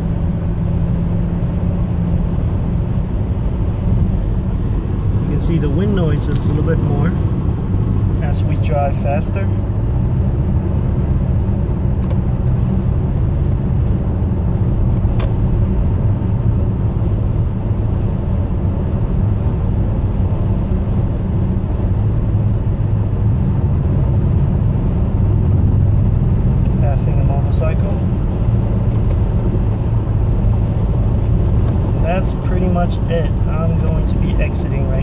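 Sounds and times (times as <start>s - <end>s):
road noise rumble: 0.0s - 35.0s.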